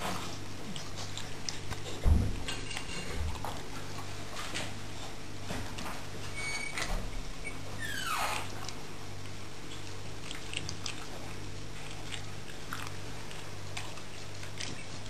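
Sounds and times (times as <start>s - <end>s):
dog chewing and crunching food: 0.0s - 15.0s.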